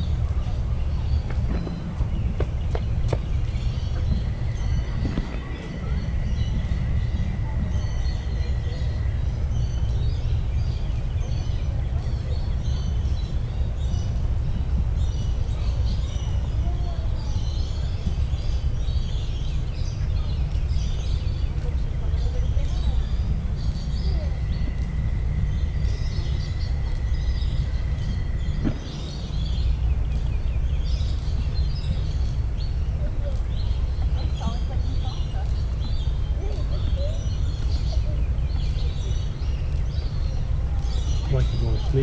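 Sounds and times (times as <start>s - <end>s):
low rumble: 0.0s - 42.0s
small birds chirping: 0.0s - 42.0s
wind on microphone: 0.0s - 42.0s.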